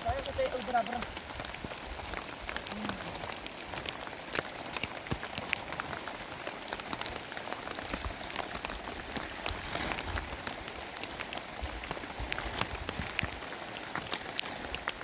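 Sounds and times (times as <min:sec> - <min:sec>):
heavy rain: 0:00.0 - 0:15.0
raindrops tapping on a surface: 0:00.0 - 0:15.0.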